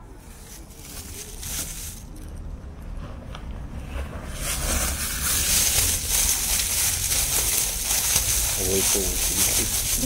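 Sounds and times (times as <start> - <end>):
plastic bags rustling: 0.1 - 2.4, 4.3 - 10.0.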